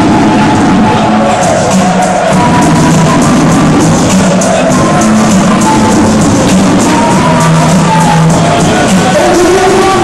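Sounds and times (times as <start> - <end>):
loud music with steady beat: 0.0 - 10.0.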